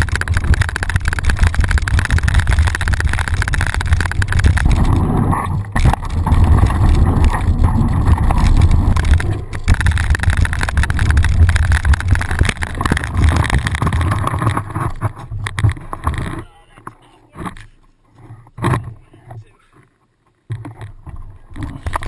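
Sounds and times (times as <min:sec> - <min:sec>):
bike tyres rumbling on dirt: 0:00.0 - 0:16.6, 0:20.9 - 0:22.0
bike rattling over bumps: 0:00.0 - 0:17.8, 0:20.5 - 0:22.0.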